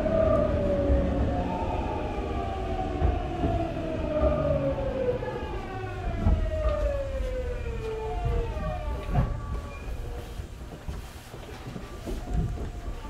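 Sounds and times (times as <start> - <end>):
wheel-on-rail rumble: 0.0 - 13.0.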